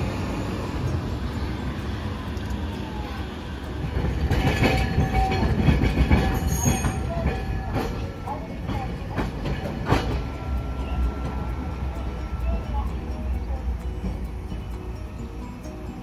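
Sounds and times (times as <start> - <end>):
streetcar running rumble: 0.0 - 16.0
wheel squeals: 1.4 - 14.3.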